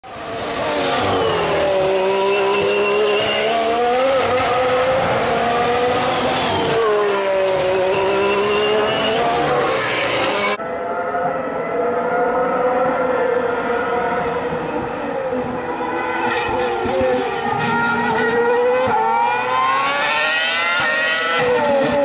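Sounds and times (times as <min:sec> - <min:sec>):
race car engine at high revs: 0:00.1 - 0:10.6, 0:11.4 - 0:22.0.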